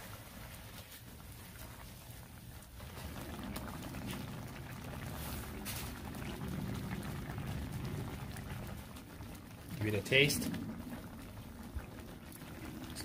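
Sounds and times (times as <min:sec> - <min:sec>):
sauce bubbling in a pan: 0:00.0 - 0:13.0.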